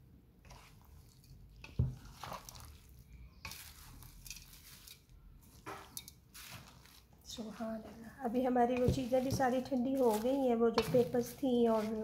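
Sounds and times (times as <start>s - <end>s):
wooden spoon stirring in metal bowl: 0.4s - 12.0s.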